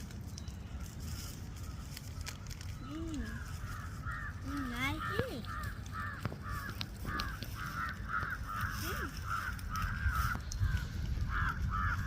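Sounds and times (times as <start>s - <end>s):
crows cawing: 1.1s - 12.0s.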